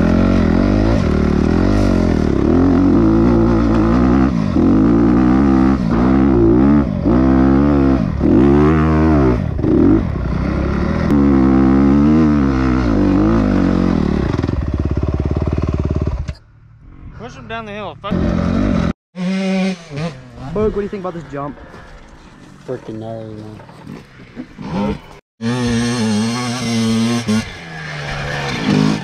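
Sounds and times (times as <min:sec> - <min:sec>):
dirt bike engine revving: 0:00.0 - 0:17.0, 0:18.0 - 0:22.0, 0:23.6 - 0:29.0.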